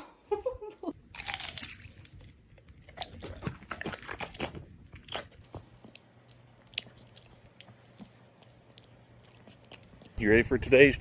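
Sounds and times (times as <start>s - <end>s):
dog chewing and crunching: 1.2s - 10.2s.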